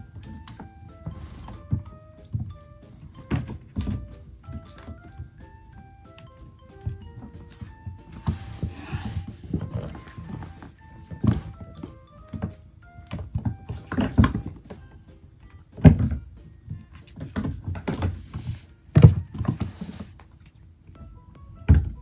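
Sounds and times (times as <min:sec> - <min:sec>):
light background music: 0:00.0 - 0:22.0.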